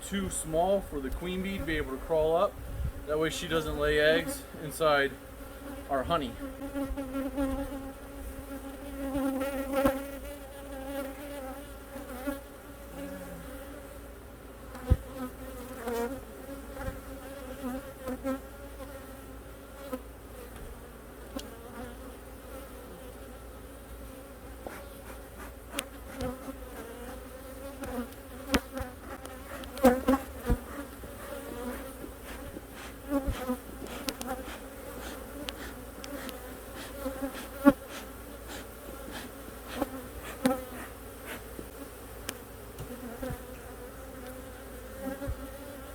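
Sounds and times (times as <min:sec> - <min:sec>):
bees buzzing: 0:00.0 - 0:45.9.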